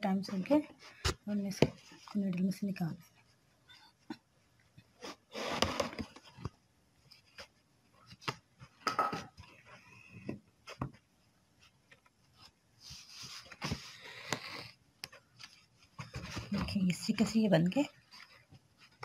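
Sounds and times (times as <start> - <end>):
fabric rustling: 0.1 - 14.2, 15.1 - 19.0.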